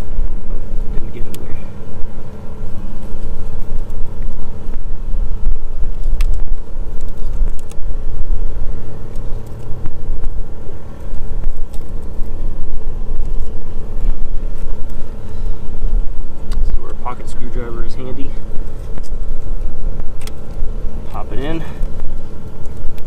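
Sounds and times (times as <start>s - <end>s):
engine running with low rumble: 0.0s - 23.0s.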